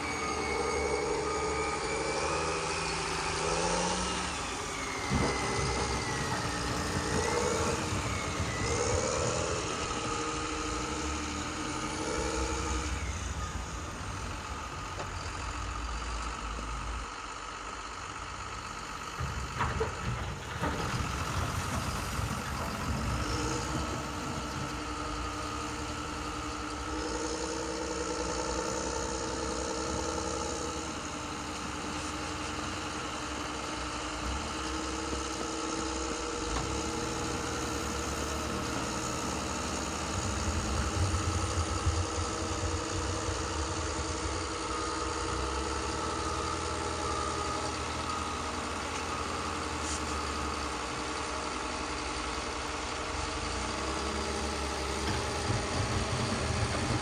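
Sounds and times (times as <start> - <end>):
model machine motor hum and whine: 0.0 - 57.0.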